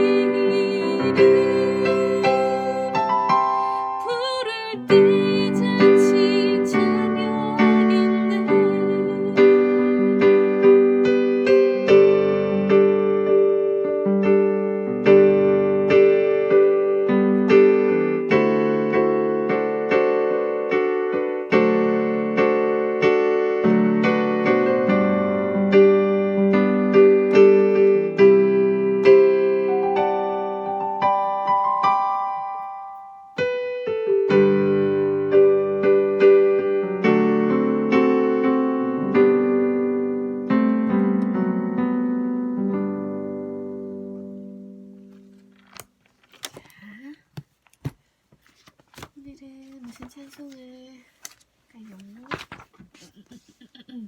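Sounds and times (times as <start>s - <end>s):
keyboard playing hymn chords: 0.0s - 45.9s.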